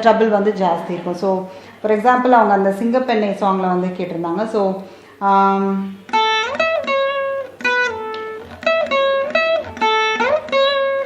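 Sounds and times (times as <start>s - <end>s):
plucked veena notes: 0.0s - 11.0s.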